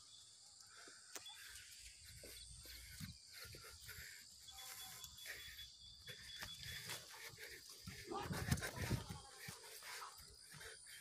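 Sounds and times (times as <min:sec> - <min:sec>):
insects humming: 0:00.0 - 0:11.0.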